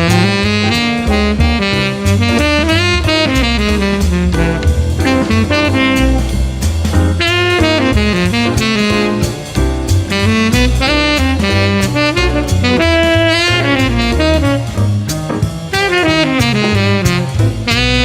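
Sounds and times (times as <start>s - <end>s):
bass line: 0.0s - 18.0s
drum kit: 0.0s - 18.0s
horn melody: 0.0s - 18.0s.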